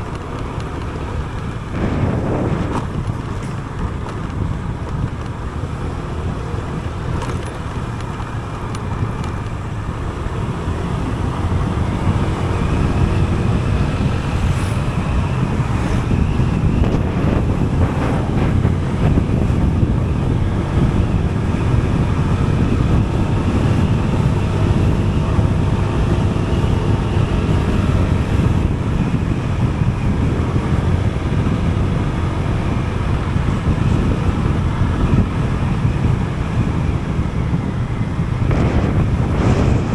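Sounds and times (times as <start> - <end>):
engine changing speed: 0.0 - 39.9
vehicle road noise: 0.0 - 39.9
wind over microphone: 0.0 - 39.9.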